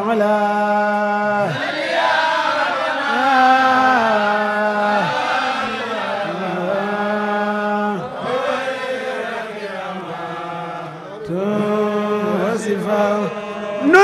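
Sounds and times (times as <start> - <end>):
person chanting: 0.0 - 1.7, 2.7 - 14.0.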